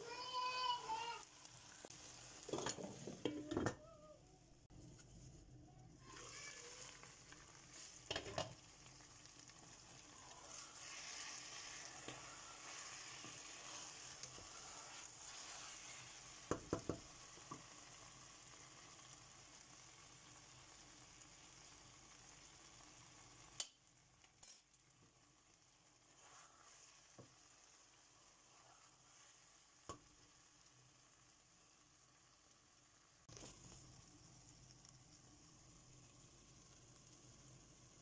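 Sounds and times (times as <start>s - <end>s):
curry sizzling in pot: 0.0s - 38.0s.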